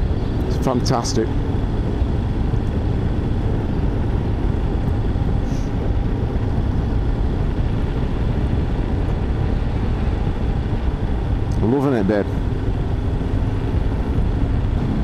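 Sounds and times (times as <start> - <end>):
motorcycle engine hum: 0.0 - 15.0
wind rush: 0.0 - 15.0.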